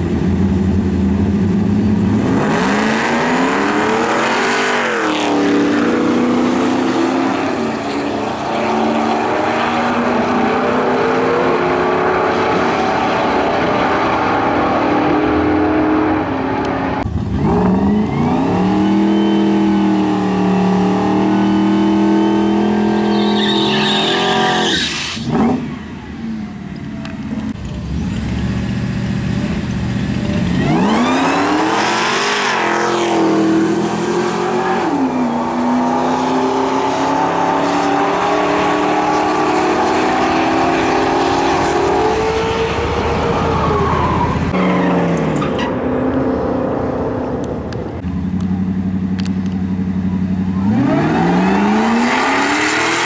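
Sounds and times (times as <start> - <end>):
drag racing engines roaring: 0.0 - 53.0
cars accelerating hard: 1.2 - 26.1, 30.2 - 53.0.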